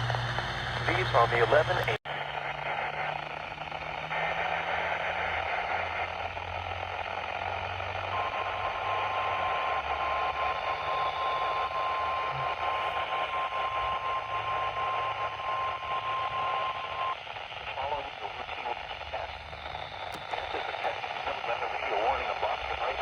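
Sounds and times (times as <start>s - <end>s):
radio static hiss: 0.0s - 23.0s
steady radio alarm tone: 0.9s - 23.0s.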